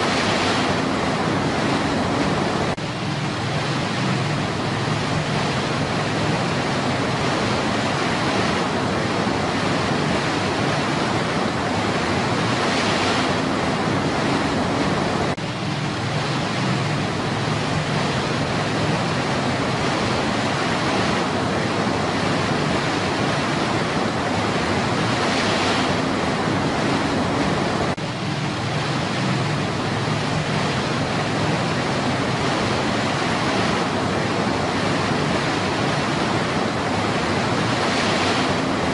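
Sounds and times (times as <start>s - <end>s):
water rushing over boulders: 0.0s - 38.9s.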